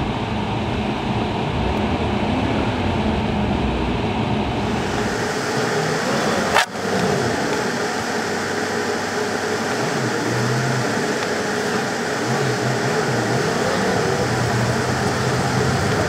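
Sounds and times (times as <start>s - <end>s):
car engine hum and road noise: 0.0s - 16.0s
low wavering hum: 0.0s - 16.0s.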